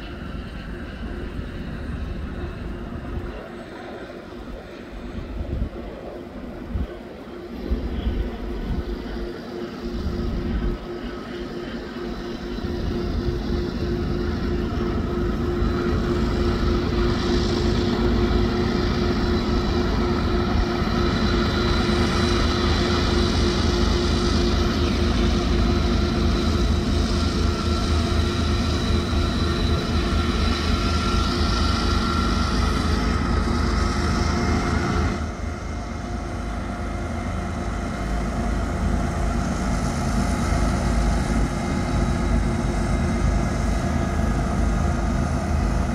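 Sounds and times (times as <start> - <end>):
locomotive engine drone: 0.0 - 45.9.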